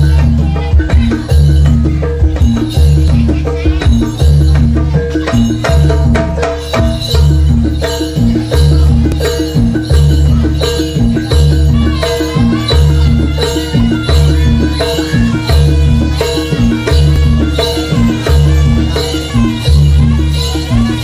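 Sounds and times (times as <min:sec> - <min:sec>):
gamelan music: 0:00.0 - 0:21.0.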